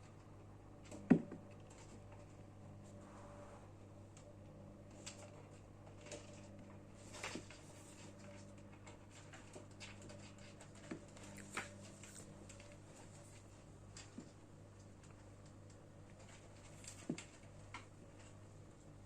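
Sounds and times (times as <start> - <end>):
kittens pattering and scratching: 0.0 - 19.0
low electrical hum: 0.0 - 19.0.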